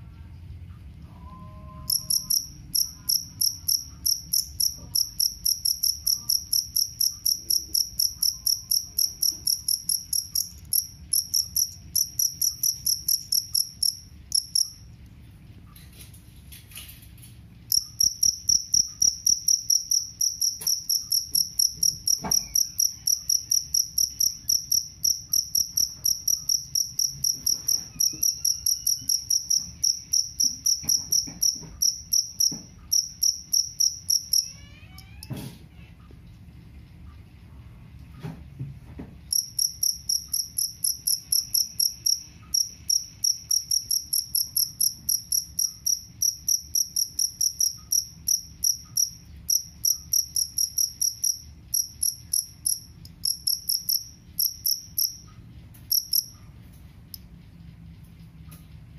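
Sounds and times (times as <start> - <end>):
cricket chirping: 1.3 - 14.9, 17.7 - 34.5, 39.3 - 56.5.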